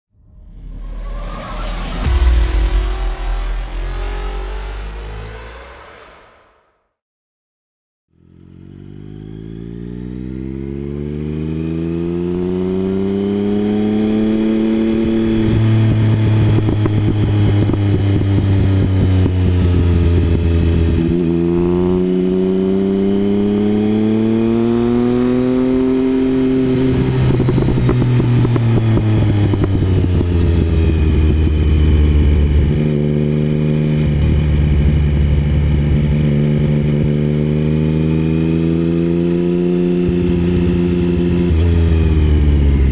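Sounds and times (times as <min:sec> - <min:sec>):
motorcycle engine revving: 0:08.2 - 0:42.9.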